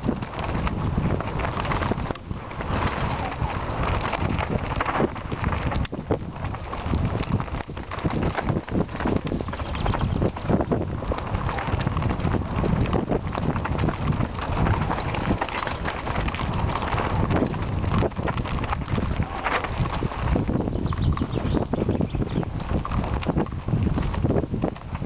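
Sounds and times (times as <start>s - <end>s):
bike rattling over bumps: 0.0s - 25.0s
tyres crunching over stones: 0.0s - 25.0s
wind buffeting microphone: 0.0s - 25.0s.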